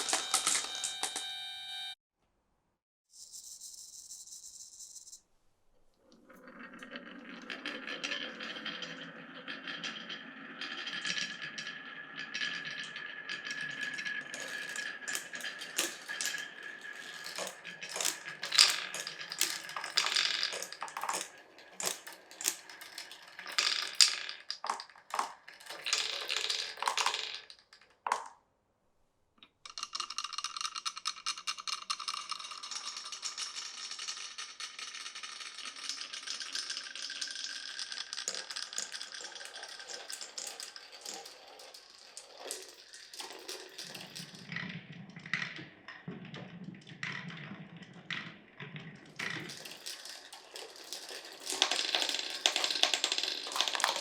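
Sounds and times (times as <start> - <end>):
marbles rolling and clattering: 0.0 - 1.3, 6.0 - 28.4, 29.4 - 54.0.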